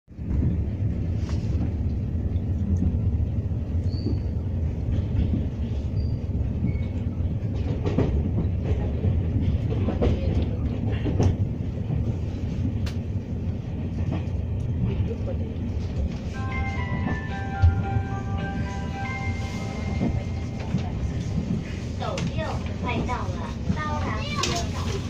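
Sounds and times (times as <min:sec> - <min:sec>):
train wheels rumbling on rails: 0:00.1 - 0:25.0.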